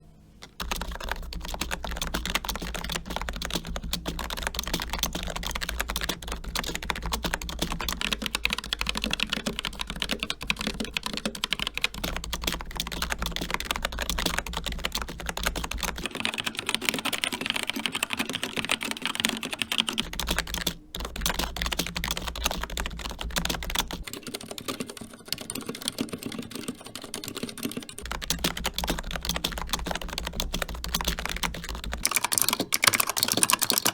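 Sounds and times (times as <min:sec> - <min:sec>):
fast keyboard typing: 0:00.4 - 0:33.9.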